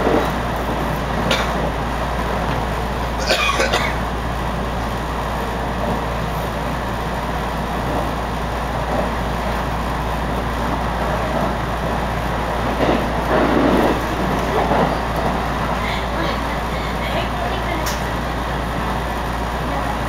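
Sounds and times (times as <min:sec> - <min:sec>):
wheel and rail running noise: 0:00.0 - 0:20.0.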